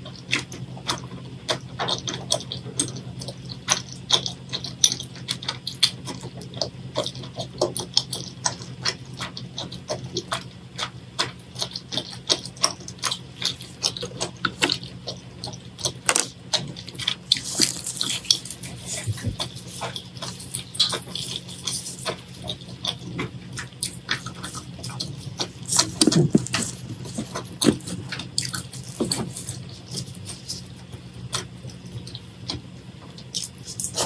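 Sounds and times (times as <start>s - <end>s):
steady low hum: 0.0s - 34.0s
wet chewing and mouth clicks: 0.0s - 34.0s.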